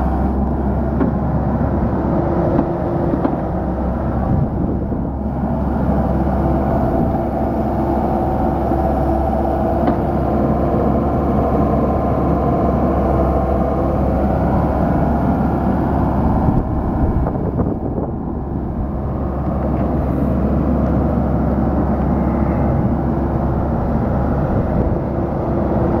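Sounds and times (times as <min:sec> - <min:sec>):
excavator diesel engine droning: 0:00.0 - 0:26.0.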